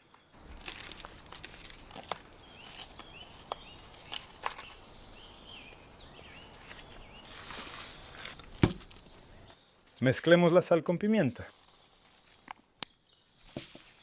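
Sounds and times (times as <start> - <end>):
small birds chirping: 1.6 - 14.0.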